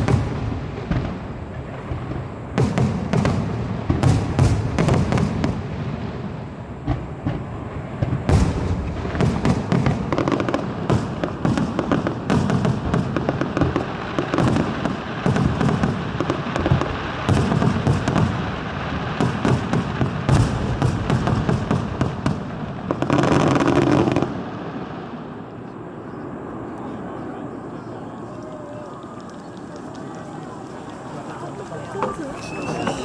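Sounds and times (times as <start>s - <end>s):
fireworks bangs and crackles: 0.0s - 33.0s
low fireworks booms: 0.0s - 33.0s.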